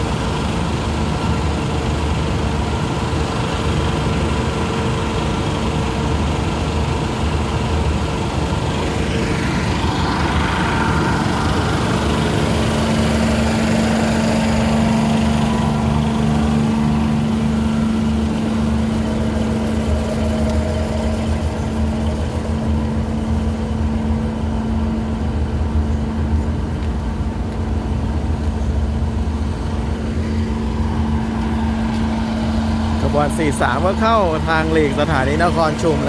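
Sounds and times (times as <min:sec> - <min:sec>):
diesel railcar engines idling: 0:00.0 - 0:36.0.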